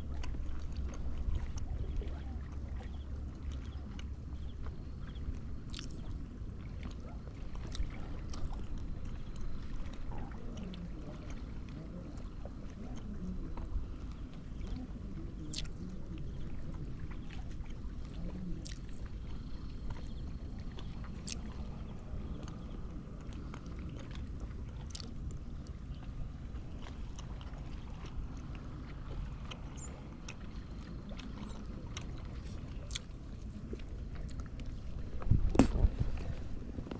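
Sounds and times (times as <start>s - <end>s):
boat low rumble: 0.0s - 36.9s.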